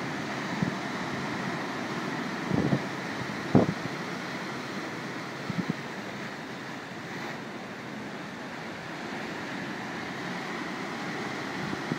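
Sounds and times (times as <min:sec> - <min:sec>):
choppy sea water: 0:00.0 - 0:11.9.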